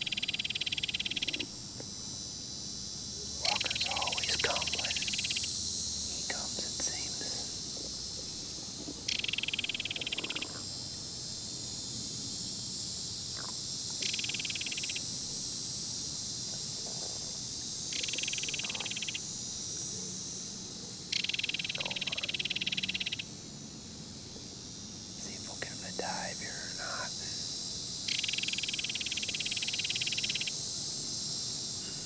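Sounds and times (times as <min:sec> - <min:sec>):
insects chorus: 0:00.0 - 0:32.0.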